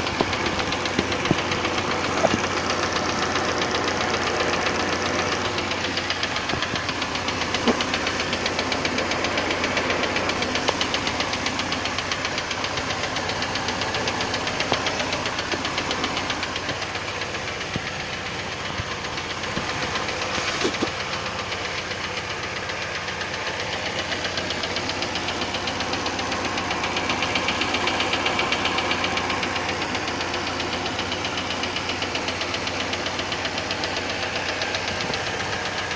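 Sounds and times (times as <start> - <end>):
engine running with rhythmic knock: 0.0 - 35.9.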